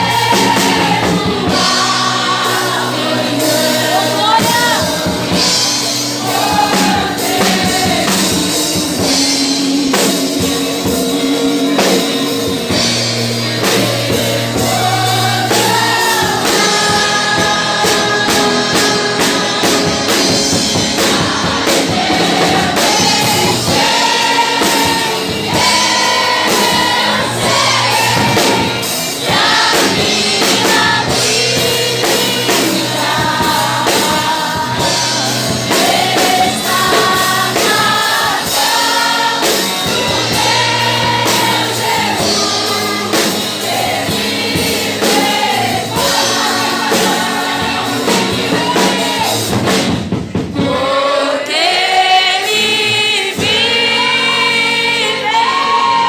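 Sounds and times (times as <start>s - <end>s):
drum beat: 0.0s - 54.0s
bass: 0.0s - 56.0s
group of voices singing: 0.0s - 56.0s.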